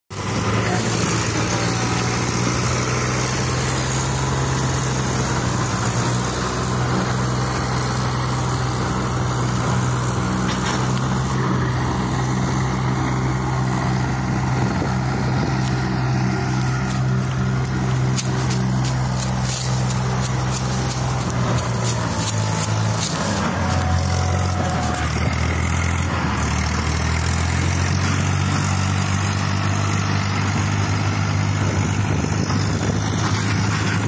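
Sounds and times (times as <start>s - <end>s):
tractor diesel engines under load: 0.1s - 34.0s.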